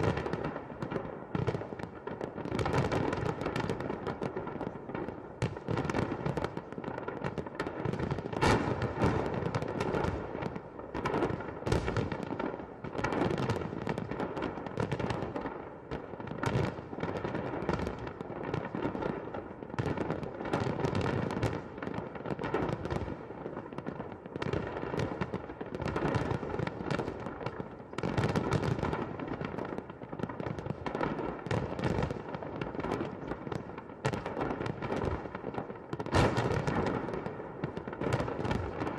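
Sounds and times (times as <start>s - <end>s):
fireworks bangs and booms: 0.0s - 38.9s.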